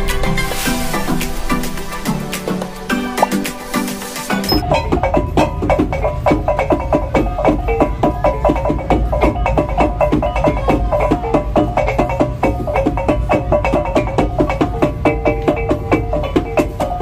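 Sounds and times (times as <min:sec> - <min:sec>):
up-tempo pitched percussion music: 0:00.0 - 0:17.0.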